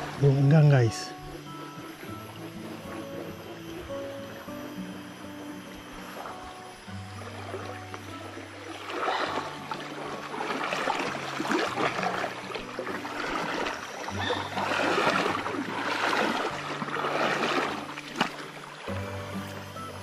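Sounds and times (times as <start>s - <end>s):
feet wading through water: 0.0s - 19.8s.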